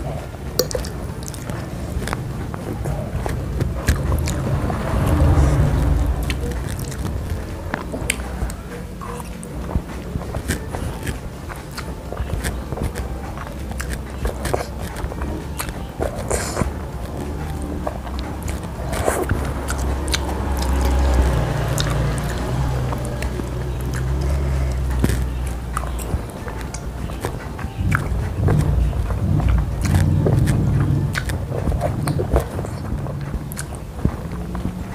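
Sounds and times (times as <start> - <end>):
person chewing and slurping noodles: 0.0 - 34.9.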